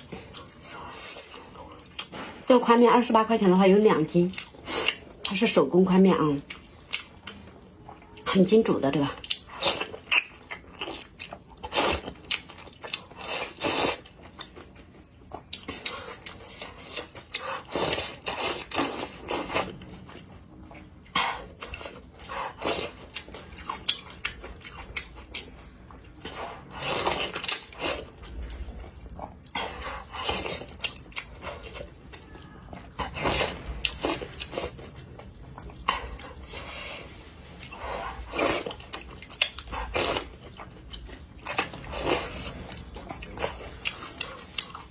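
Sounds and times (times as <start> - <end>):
slurping and chewing noodles: 4.1 - 5.5, 9.1 - 44.9.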